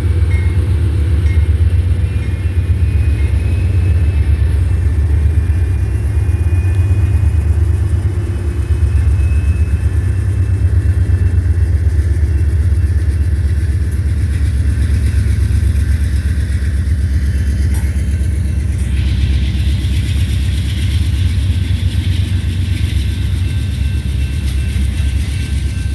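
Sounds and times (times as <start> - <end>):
diesel locomotive engine running: 0.0 - 25.9.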